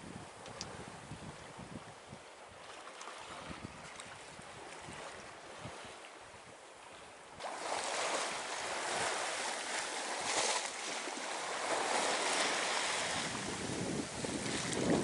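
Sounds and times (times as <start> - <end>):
water rushing along boat hull: 0.0 - 15.0
wind: 0.0 - 15.0.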